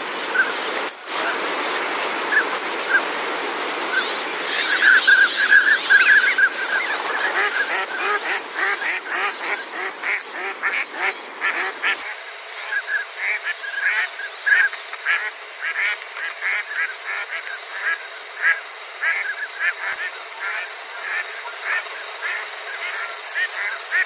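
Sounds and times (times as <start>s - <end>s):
ducks calling: 3.8s - 24.0s.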